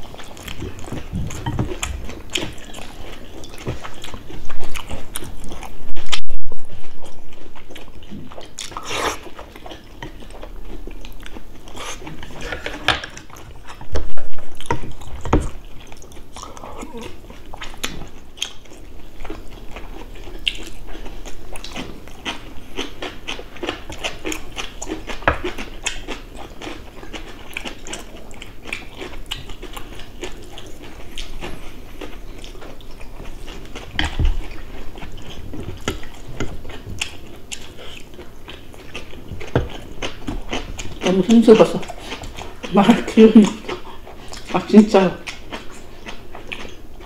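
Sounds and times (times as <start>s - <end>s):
people chewing and biting: 0.0s - 47.0s.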